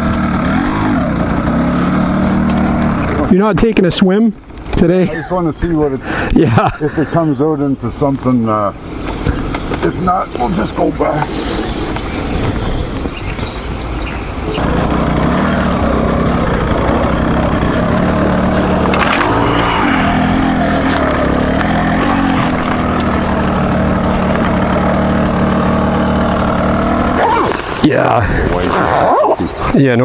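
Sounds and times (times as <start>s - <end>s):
motorcycle engine revving: 0.0s - 5.1s, 8.7s - 29.7s.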